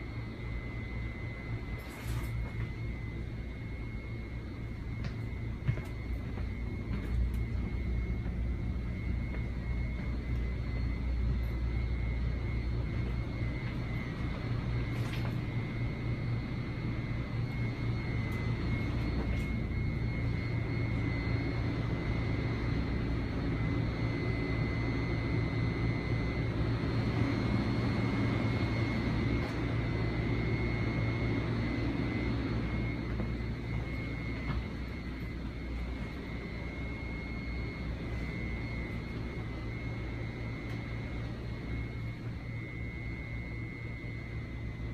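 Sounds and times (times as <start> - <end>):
high-pitched whine: 0.0 - 44.9
railcar equipment humming: 0.0 - 44.9.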